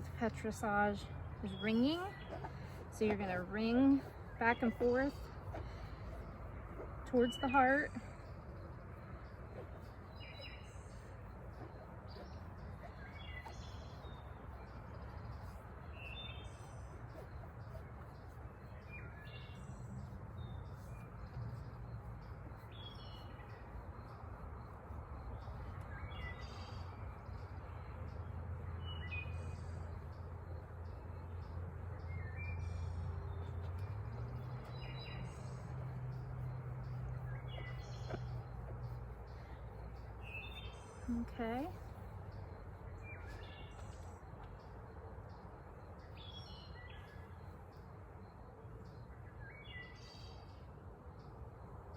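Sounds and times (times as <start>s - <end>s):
birds chirping: 0.0s - 51.9s
low steady hum: 0.0s - 51.9s.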